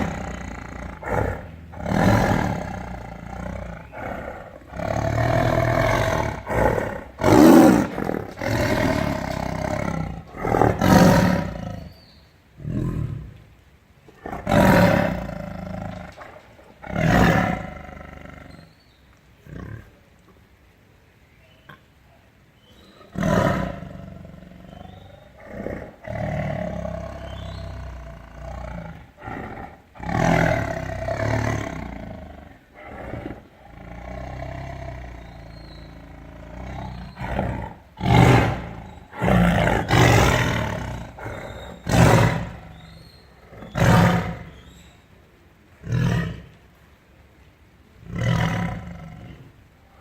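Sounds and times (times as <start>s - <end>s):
big cat roaring: 0.0s - 12.0s, 14.2s - 18.7s, 23.1s - 44.7s, 45.8s - 46.6s, 48.0s - 49.6s.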